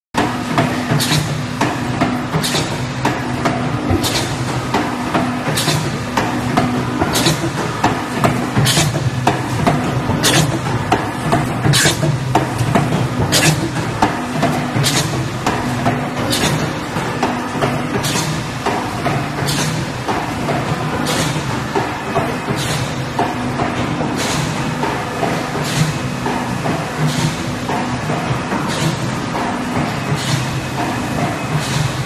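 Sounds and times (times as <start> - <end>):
machine clack and hiss: 0.2 - 32.0
machinery motor hum with clatter: 0.2 - 32.0.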